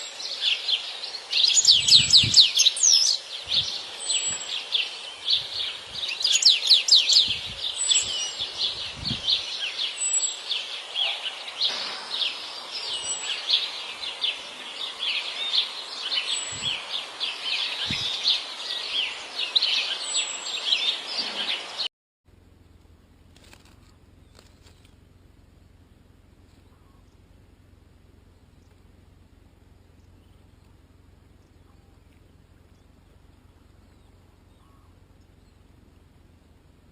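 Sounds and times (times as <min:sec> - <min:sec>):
bird twittering song: 0:00.0 - 0:21.9, 0:23.6 - 0:25.1, 0:25.8 - 0:36.8.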